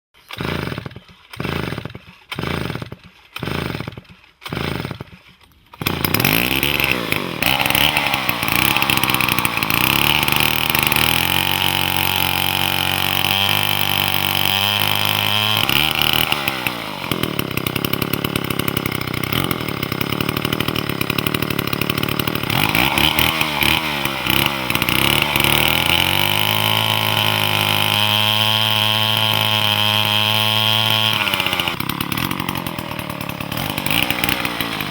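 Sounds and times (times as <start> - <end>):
chainsaw engine revving: 0.2 - 34.9.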